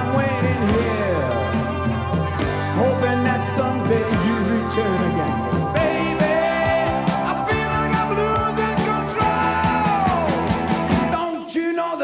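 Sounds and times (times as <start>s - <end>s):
instrumental rock band: 0.0s - 11.2s.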